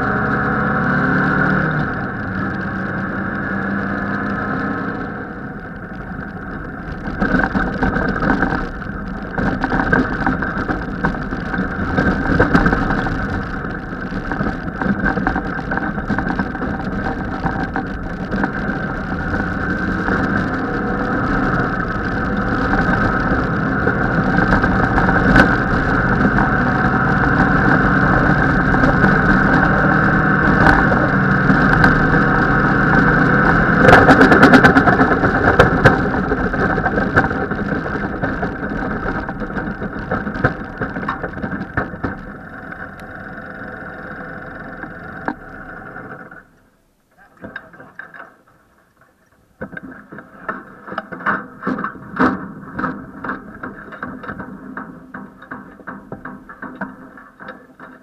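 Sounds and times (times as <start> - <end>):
rattling over bumps: 0.0 - 46.6, 47.3 - 58.0
off-road vehicle engine running: 0.0 - 46.8, 49.6 - 58.0.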